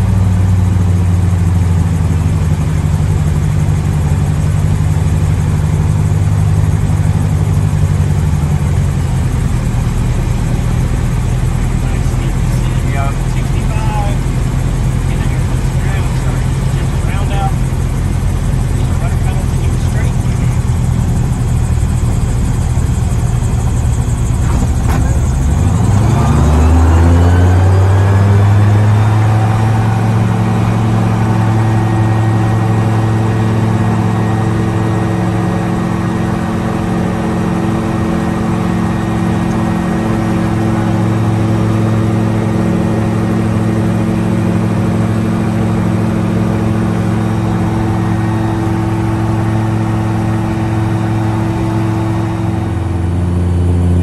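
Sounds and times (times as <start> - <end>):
aircraft engine at high power: 0.0 - 54.0.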